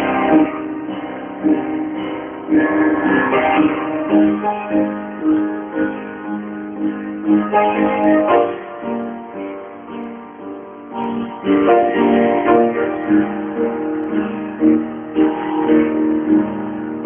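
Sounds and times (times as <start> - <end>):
upright piano playing: 0.0 - 17.0.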